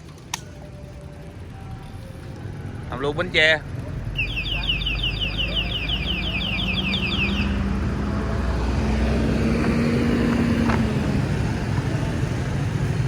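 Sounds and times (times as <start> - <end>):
road traffic noise: 0.0 - 13.0
vehicle engine humming: 0.0 - 13.0.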